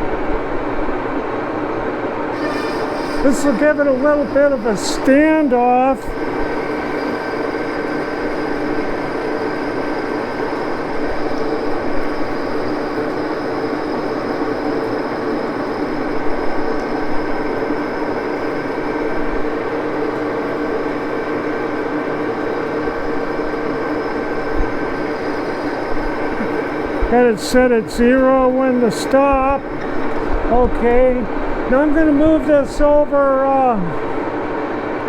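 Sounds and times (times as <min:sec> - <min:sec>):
lathe running: 0:01.0 - 0:35.0.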